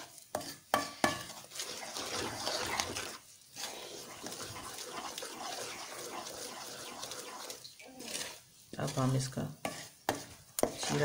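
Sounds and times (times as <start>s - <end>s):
wooden spoon stirring thick paste: 0.0s - 11.0s.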